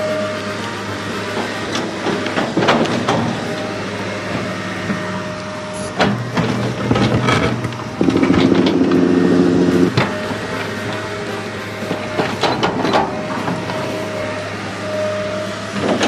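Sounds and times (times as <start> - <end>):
mechanical hum: 0.0 - 16.0
motor hum: 0.0 - 16.0.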